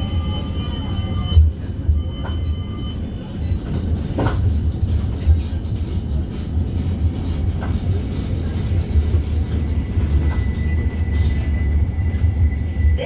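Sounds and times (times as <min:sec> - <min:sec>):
tram clatter: 0:00.0 - 0:13.0
tram rumbling on rails: 0:00.0 - 0:13.0.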